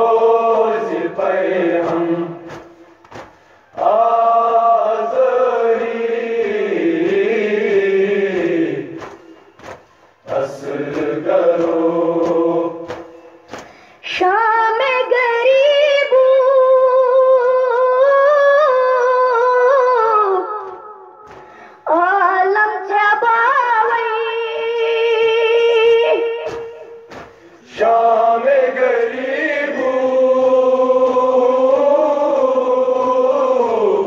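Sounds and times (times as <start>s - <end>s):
voices chanting a lament: 0.0s - 34.0s.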